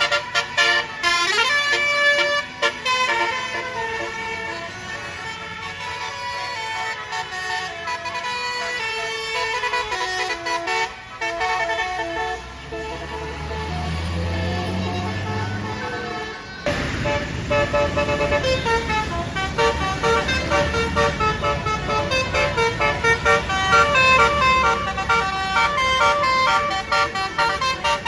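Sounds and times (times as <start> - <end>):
multi-tone bus air horn tune: 0.0 - 28.0.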